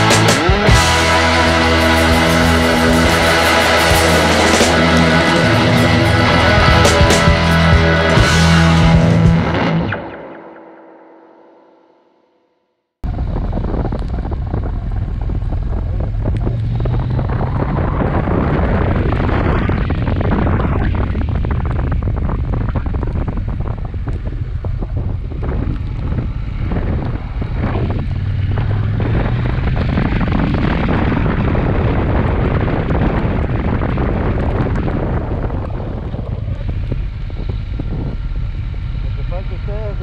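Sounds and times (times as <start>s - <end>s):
wind buffeting microphone: 0.0s - 9.5s, 13.0s - 40.0s
motorcycle engine drone: 0.0s - 40.0s.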